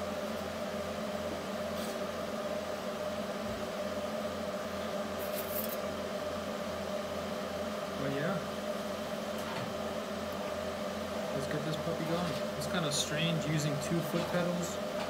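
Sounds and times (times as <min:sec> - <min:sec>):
shop machinery humming: 0:00.0 - 0:15.0.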